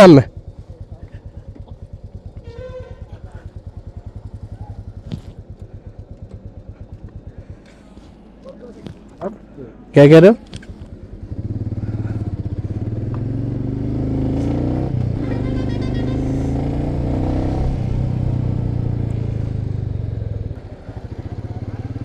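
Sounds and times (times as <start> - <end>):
motorcycle engine accelerating: 0.0 - 9.2, 10.5 - 22.0.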